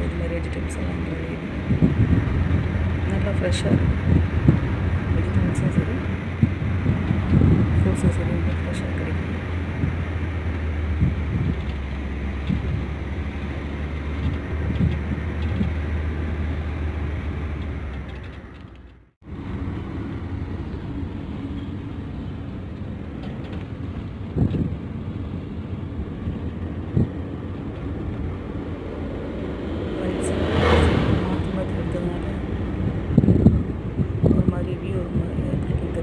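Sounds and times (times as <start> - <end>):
road and engine noise inside car: 0.0 - 36.0.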